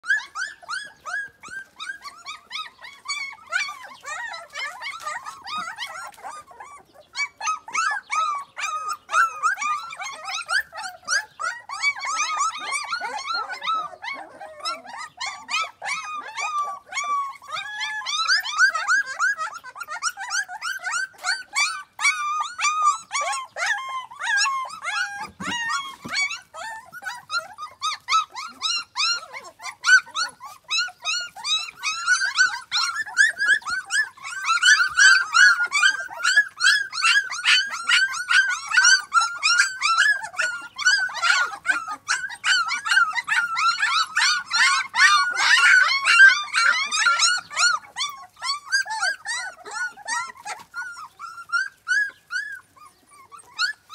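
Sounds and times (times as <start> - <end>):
puppies whining and yelping: 0.0 - 53.9.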